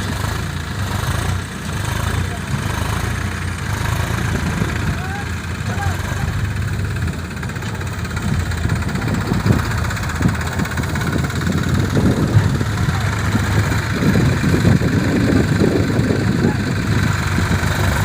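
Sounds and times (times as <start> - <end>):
diesel machinery engine running: 0.0 - 18.0.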